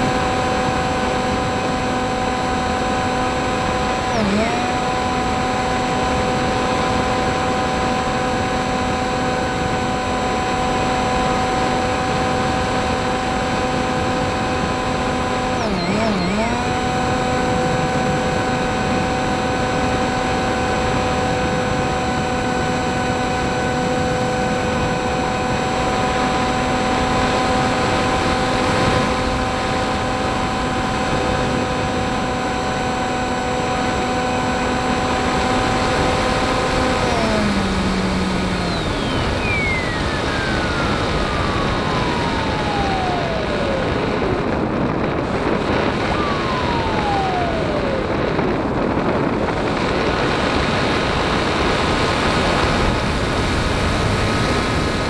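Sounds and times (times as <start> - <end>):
model plane motor whine: 0.0 - 55.0.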